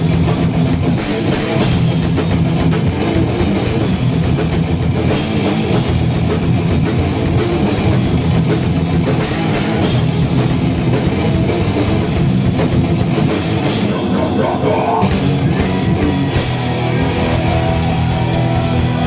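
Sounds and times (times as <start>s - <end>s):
distorted electric guitars: 0.0s - 19.0s
pounding drum kit: 0.0s - 19.0s.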